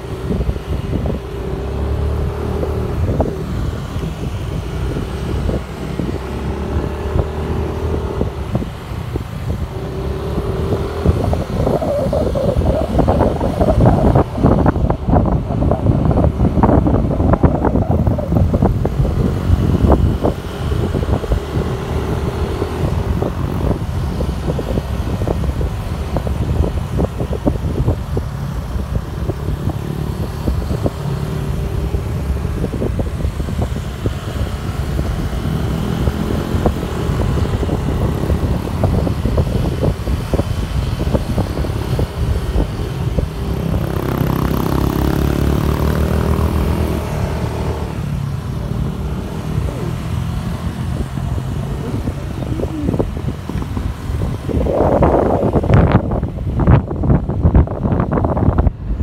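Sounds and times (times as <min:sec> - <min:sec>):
motorcycle engine running: 0:00.0 - 0:57.8
wind buffeting microphone: 0:00.0 - 0:59.0.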